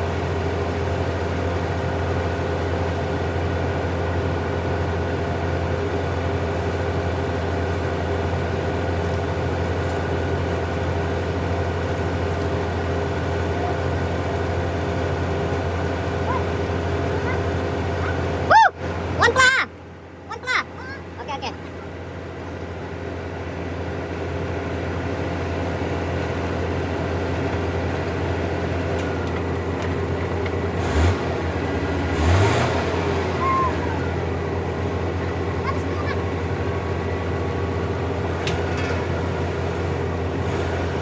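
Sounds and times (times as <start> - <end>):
heavy diesel engine drone: 0.0 - 41.0.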